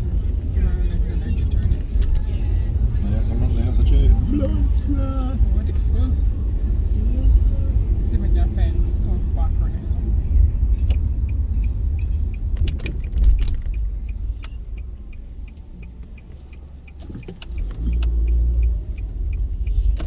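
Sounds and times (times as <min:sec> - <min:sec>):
car road rumble from inside: 0:00.0 - 0:20.0.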